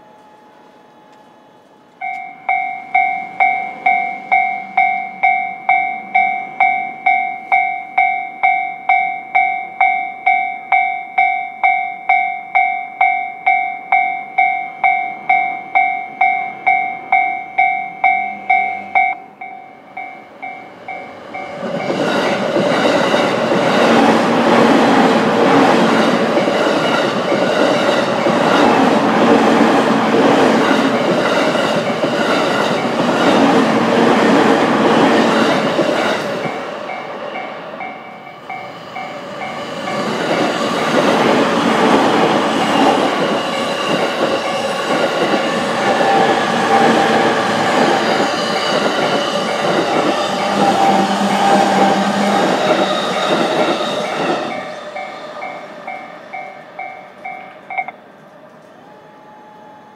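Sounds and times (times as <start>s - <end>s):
railway crossing bell ringing: 0.0s - 25.2s, 25.9s - 33.7s, 35.1s - 58.0s
train passing: 0.0s - 59.9s.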